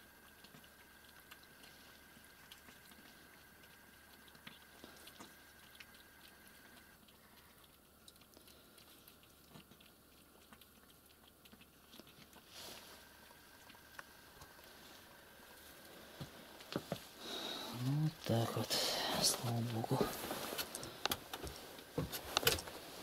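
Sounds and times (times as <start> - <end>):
cats chewing food: 0.0 - 23.0.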